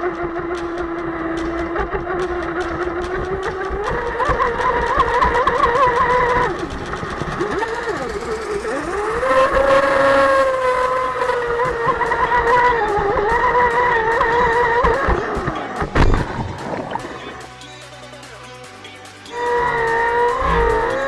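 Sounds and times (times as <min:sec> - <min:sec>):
electric motor whining: 0:00.0 - 0:17.5, 0:19.3 - 0:21.0.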